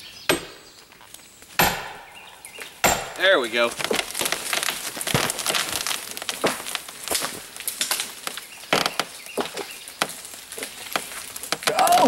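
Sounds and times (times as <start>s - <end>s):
tree trunk cracking and splintering: 0.9s - 12.0s.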